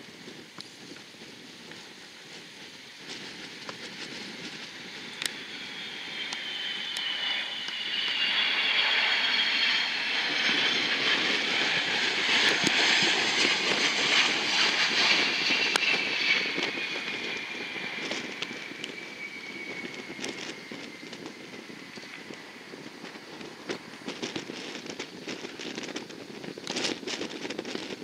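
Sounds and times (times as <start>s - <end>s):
jet engines whining and rushing: 0.0s - 28.0s.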